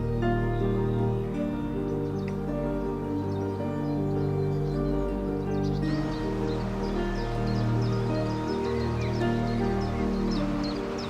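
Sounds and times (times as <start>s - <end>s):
calm music of held notes: 0.0s - 11.0s.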